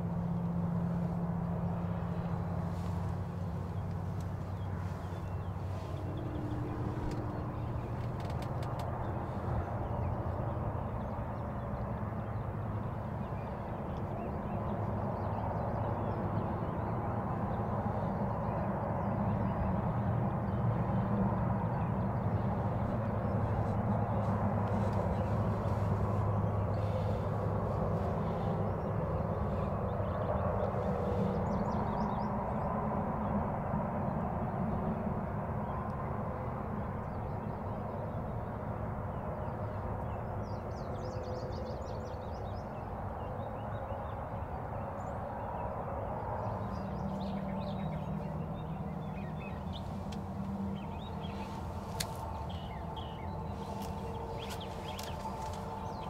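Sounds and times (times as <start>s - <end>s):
faint steady hums: 0.0s - 33.4s, 44.1s - 56.0s
low outdoor rumble: 0.0s - 56.0s.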